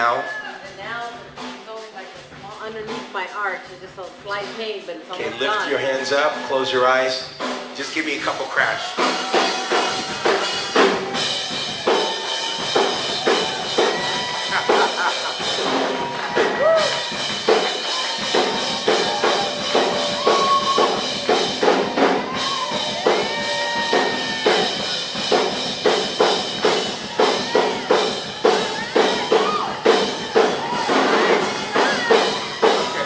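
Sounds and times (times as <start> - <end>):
drum kit beat: 0.0 - 33.0.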